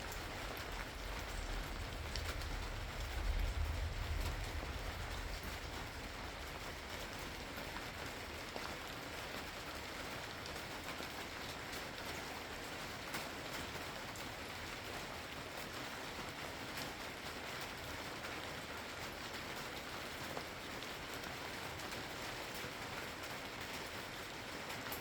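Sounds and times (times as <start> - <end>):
rain on a hard surface: 0.0 - 25.0.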